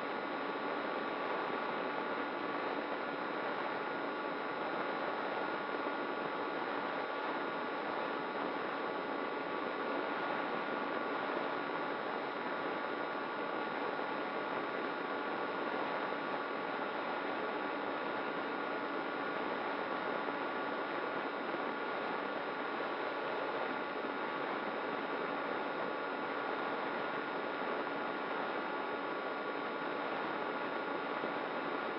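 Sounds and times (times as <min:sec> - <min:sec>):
faint motor whine: 0:00.0 - 0:31.9.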